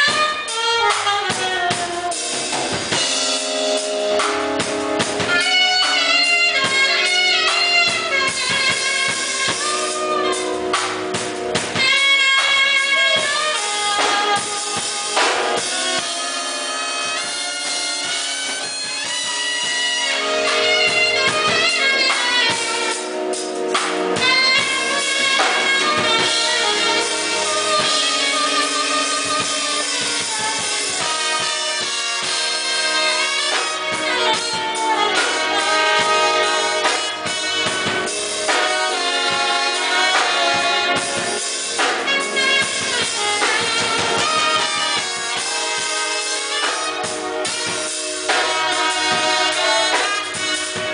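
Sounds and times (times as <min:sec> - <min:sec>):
band playing: 0:00.0 - 0:50.9
drums: 0:00.0 - 0:50.9
horn melody: 0:00.0 - 0:50.9.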